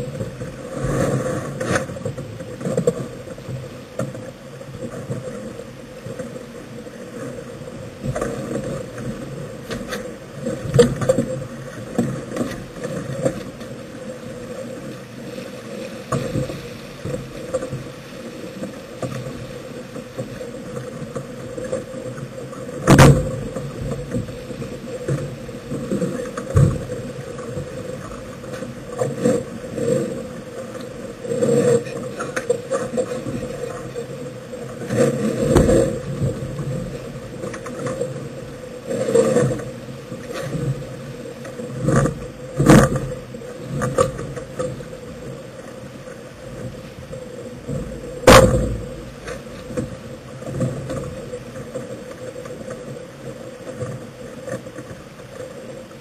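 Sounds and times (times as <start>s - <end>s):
sailboat rushing noise: 0.0s - 56.0s.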